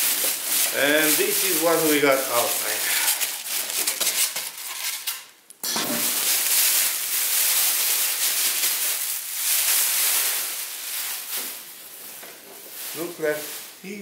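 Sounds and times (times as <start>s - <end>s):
packaging rustling and scraping: 0.0s - 13.8s.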